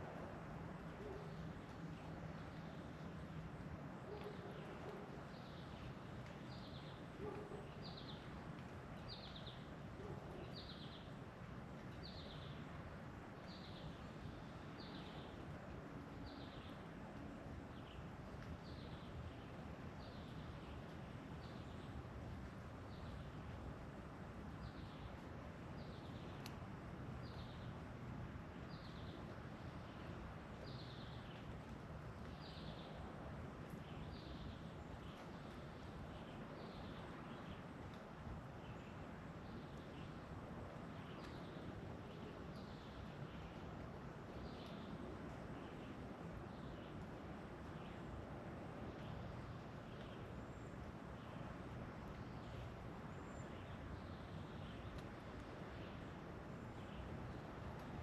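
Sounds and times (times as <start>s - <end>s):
steady outdoor hiss: 0.0s - 58.0s.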